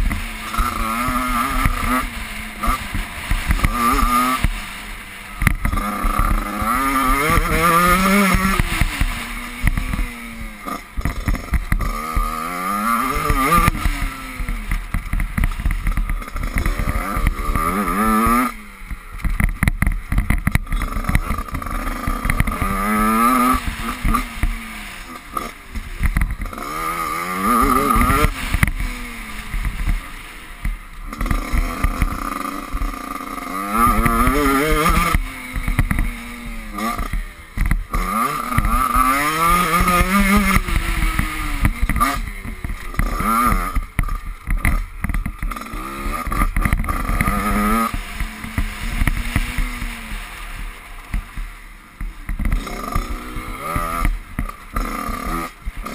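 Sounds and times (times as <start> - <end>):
constant low rumble: 0.0 - 55.9
dirt bike engine revving: 0.0 - 55.9.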